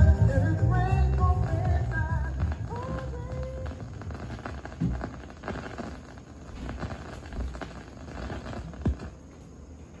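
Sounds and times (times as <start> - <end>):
vinyl surface crackle and hiss: 0.0 - 10.0.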